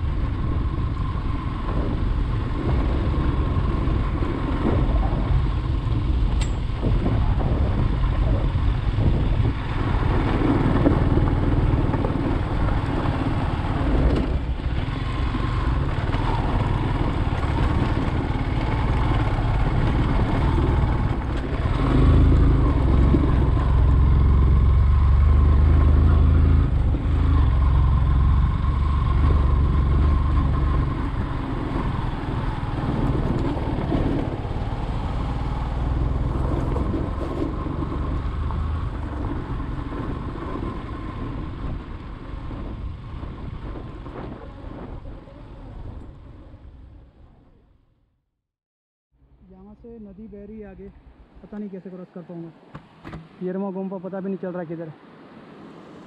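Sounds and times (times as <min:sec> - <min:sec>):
motorcycle engine running: 0:00.0 - 0:47.6
low rumbling noise: 0:00.0 - 0:48.1.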